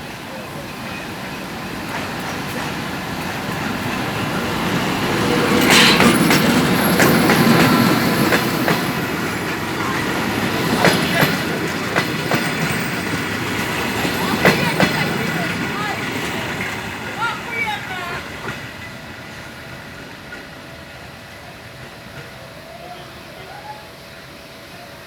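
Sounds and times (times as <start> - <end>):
train wheels clacking on rail joints: 0.0 - 22.6
train rumble: 0.0 - 25.0.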